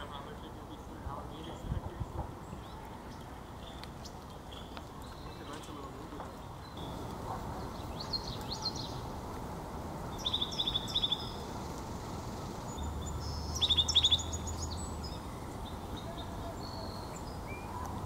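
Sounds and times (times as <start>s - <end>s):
songbird chipping calls: 2.4s - 9.1s, 10.1s - 18.0s.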